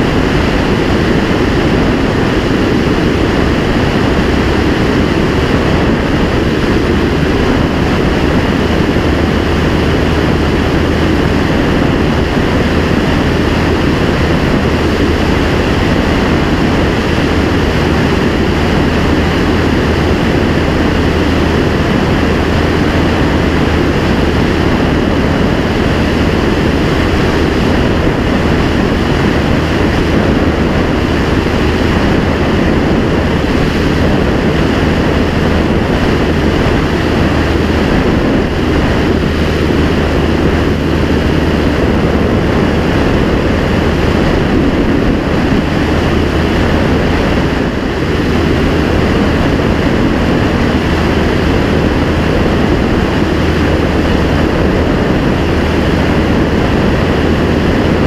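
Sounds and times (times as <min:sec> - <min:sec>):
propeller plane engine in flight: 0:00.0 - 0:58.0
wind rushing over microphone: 0:00.0 - 0:58.0.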